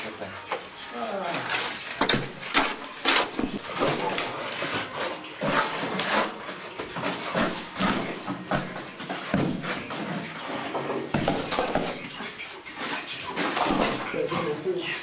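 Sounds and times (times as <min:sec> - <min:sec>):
shovels scraping gravelly concrete: 0:00.0 - 0:15.0.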